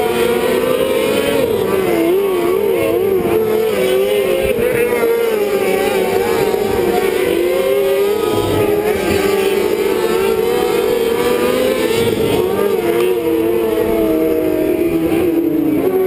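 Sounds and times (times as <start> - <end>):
kart engines racing: 0.0 - 16.0.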